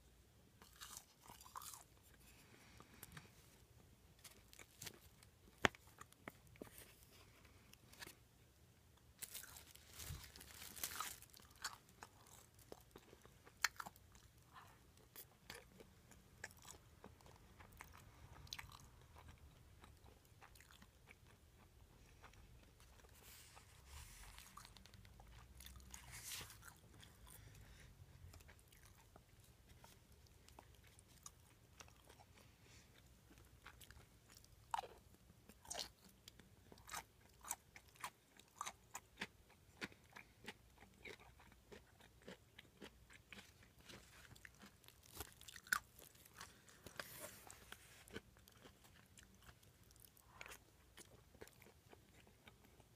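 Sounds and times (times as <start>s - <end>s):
chewing with crunchy clicks: 9.0s - 52.9s.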